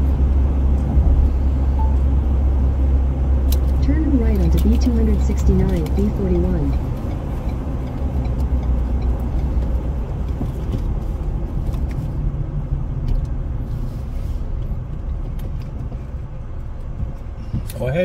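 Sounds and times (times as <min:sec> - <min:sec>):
truck cabin road rumble: 0:00.0 - 0:18.0.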